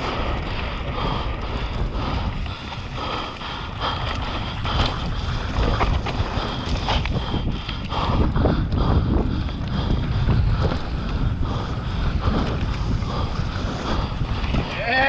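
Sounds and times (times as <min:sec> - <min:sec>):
bike knocking and rattling: 0:00.0 - 0:15.0
wind buffeting microphone: 0:00.0 - 0:15.0.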